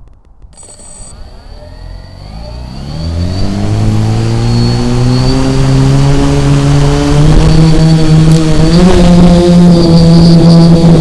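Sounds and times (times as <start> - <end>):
drone motors whining: 0.5 - 11.0.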